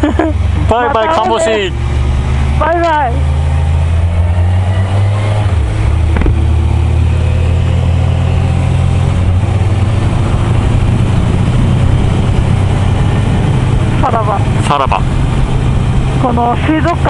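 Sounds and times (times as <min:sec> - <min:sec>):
motorcycle engine running: 0:00.0 - 0:17.0
wind rushing over microphone: 0:03.3 - 0:17.0.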